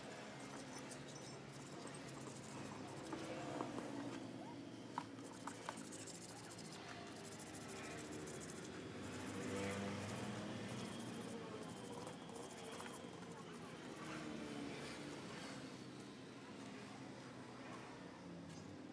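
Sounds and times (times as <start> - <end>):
faint steady background noise: 0.0 - 18.9.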